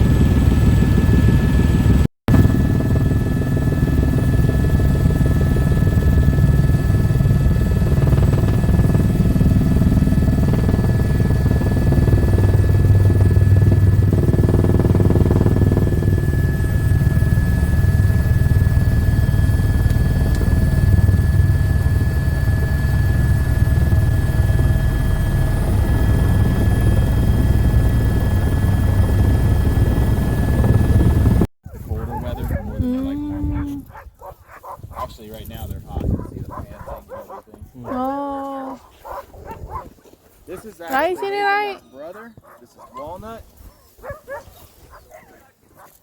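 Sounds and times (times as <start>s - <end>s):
helicopter rotor and engine rumble: 0.0s - 38.0s, 40.8s - 41.8s.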